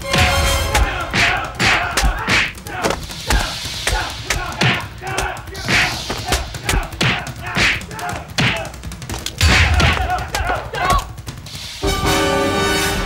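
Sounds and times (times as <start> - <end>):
men grunting and shouting: 0.1 - 11.2
punch thuds: 0.2 - 11.4.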